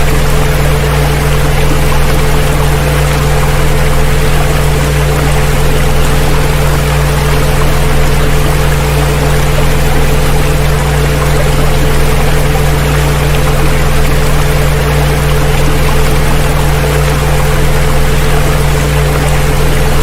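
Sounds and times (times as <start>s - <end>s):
steady low tones: 0.0s - 20.0s
water rushing: 0.0s - 20.0s.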